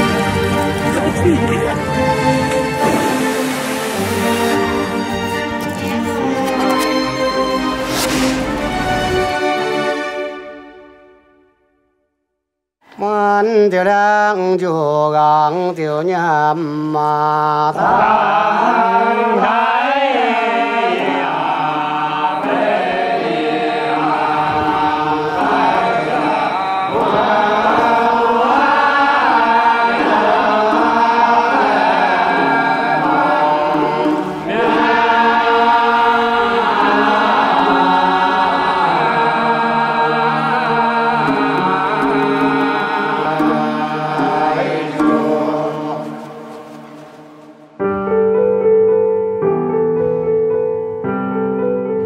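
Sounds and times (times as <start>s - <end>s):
group singing unaccompanied: 1.8s - 10.2s, 12.9s - 47.8s.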